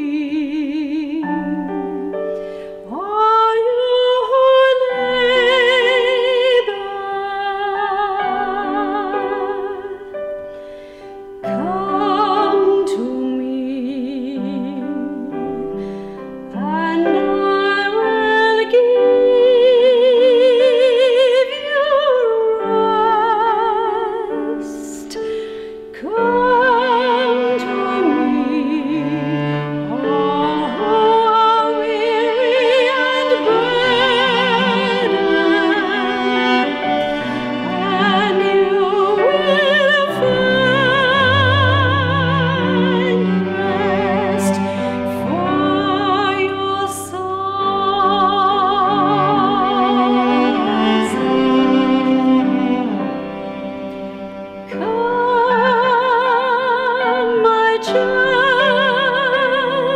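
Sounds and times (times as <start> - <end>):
cello: 0.0 - 59.9
piano: 0.0 - 59.9.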